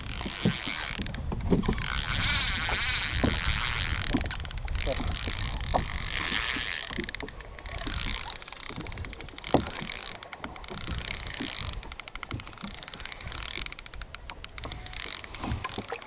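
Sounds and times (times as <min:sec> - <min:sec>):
fishing reel clicking: 0:00.0 - 0:16.0.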